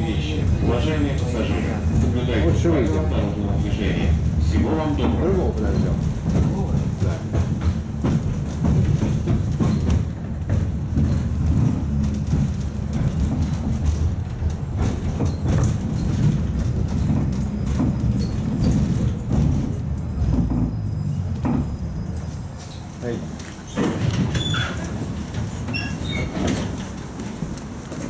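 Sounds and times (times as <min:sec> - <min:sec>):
tram wheels rumbling on rails: 0:00.0 - 0:28.0.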